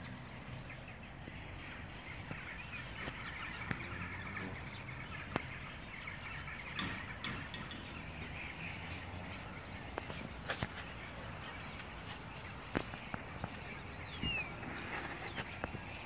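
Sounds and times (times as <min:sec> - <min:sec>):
starling flock chattering: 0:00.0 - 0:16.0.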